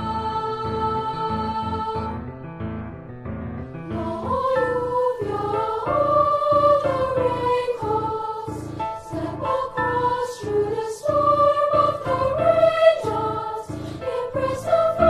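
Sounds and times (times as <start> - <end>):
choir singing slow melody: 0.0 - 2.2, 3.9 - 15.0
repeated chord accompaniment: 0.0 - 15.0.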